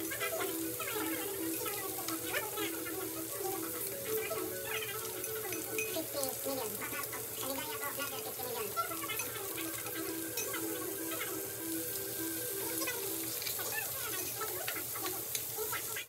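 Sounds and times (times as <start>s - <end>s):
meat sizzling on a grill: 0.0s - 16.0s
quiet background music: 0.0s - 16.0s.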